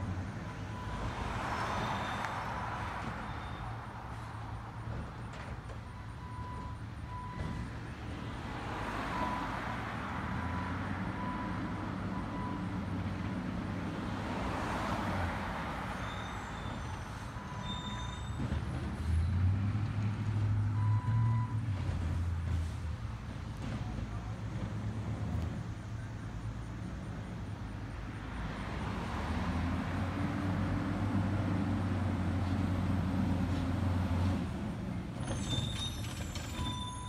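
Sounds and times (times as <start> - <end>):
cars passing by: 0.0 - 37.0.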